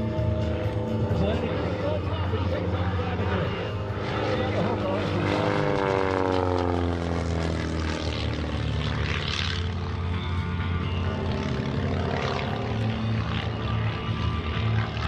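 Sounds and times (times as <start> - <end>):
propeller engine running: 0.0 - 15.0.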